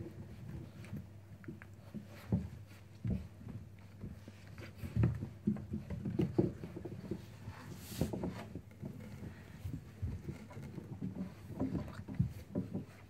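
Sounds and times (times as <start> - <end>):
puppies gnawing: 0.0 - 13.0.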